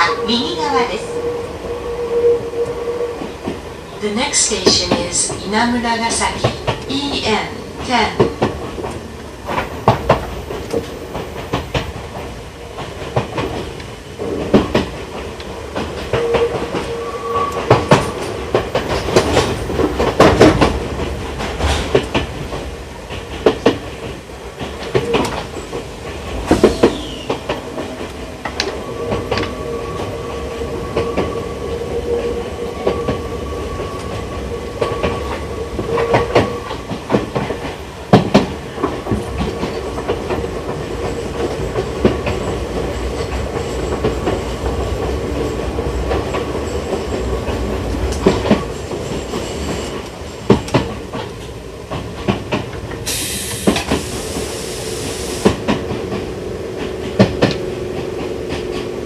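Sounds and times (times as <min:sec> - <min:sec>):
steady train rumble: 0:00.0 - 0:59.0
train wheels clacking: 0:02.6 - 0:59.0.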